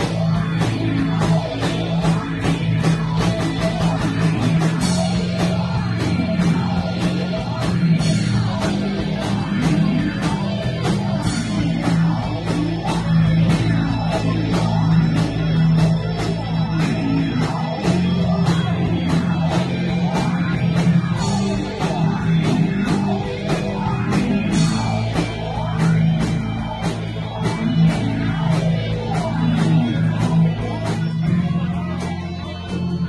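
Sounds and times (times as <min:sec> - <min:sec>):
bass guitar: 0:00.0 - 0:33.0
drum kit beat: 0:00.0 - 0:33.0
electric guitar: 0:00.0 - 0:33.0.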